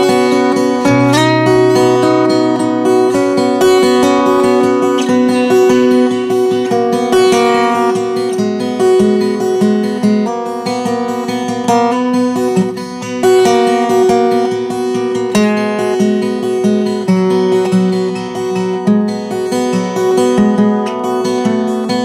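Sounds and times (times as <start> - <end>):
acoustic guitar melody: 0.0 - 22.0.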